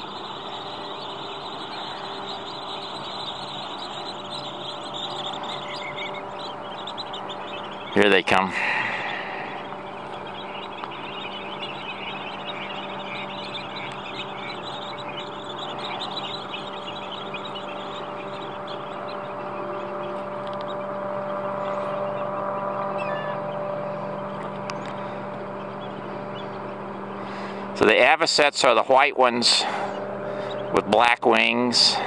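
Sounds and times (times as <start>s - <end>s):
flock of shorebirds calling: 0.0s - 32.0s
steady mechanical hum: 0.0s - 32.0s.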